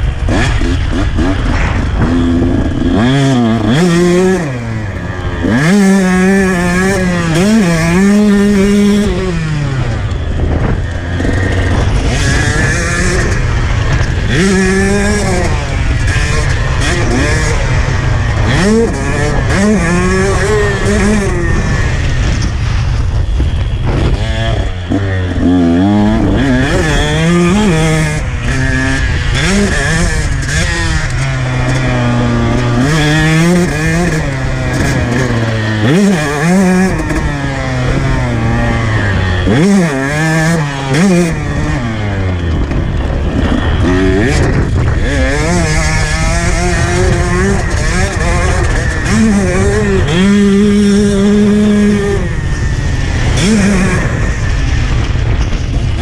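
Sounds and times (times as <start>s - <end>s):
dirt bike engine revving: 0.0s - 56.0s
wind rumble on microphone: 0.0s - 56.0s.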